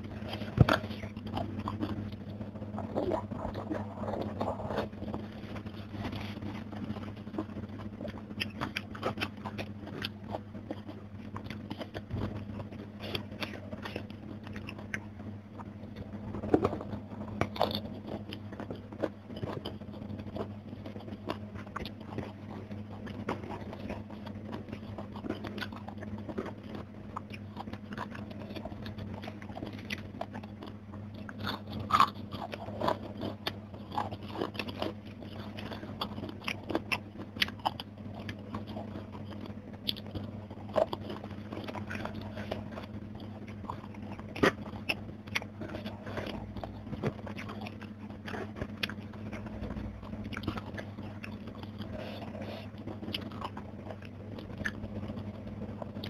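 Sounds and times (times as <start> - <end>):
chewing crispy fried fish: 0.0 - 56.0
steady low hum: 0.0 - 56.0.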